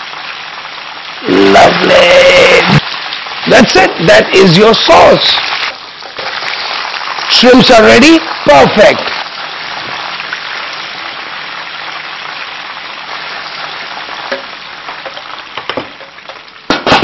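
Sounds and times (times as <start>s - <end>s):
prawns sizzling in hot oil: 0.0s - 17.0s.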